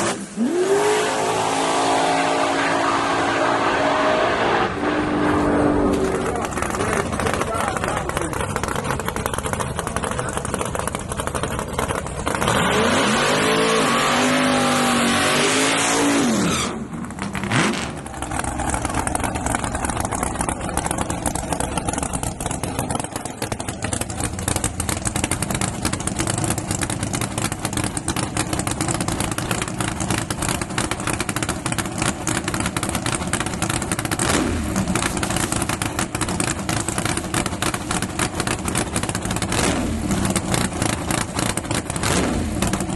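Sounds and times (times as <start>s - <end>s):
drag racing engine roaring: 0.0s - 42.9s
race vehicles idling: 2.0s - 15.1s, 16.2s - 42.9s.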